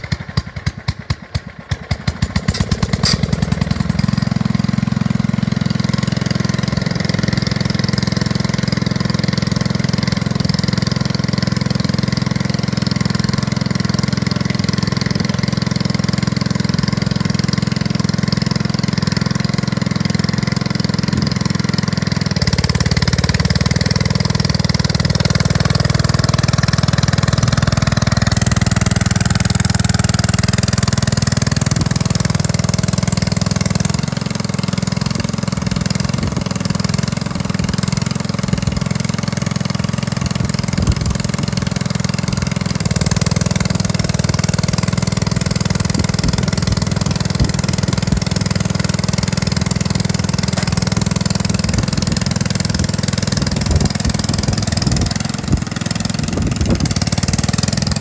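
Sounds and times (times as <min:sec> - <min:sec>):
tiller engine running: 0:00.0 - 0:58.0.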